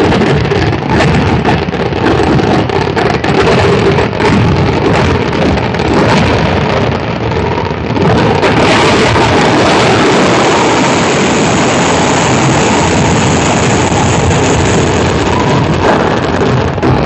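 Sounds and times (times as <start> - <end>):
fireworks barrage roaring: 0.0 - 17.0.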